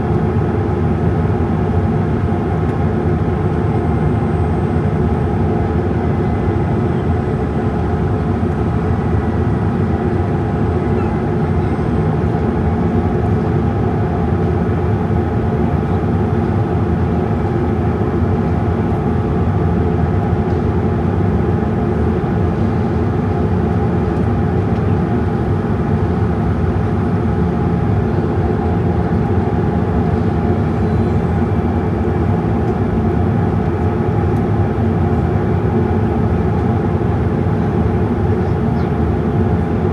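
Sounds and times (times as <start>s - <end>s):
airliner cabin jet engine noise: 0.0s - 39.9s.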